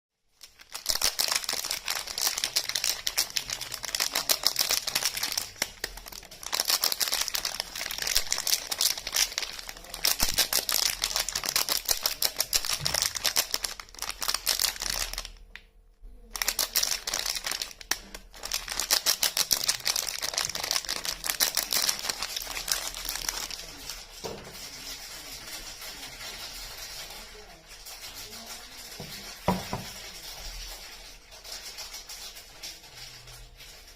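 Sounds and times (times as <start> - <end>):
crinkly wrapping being unwrapped: 0.3 - 33.9.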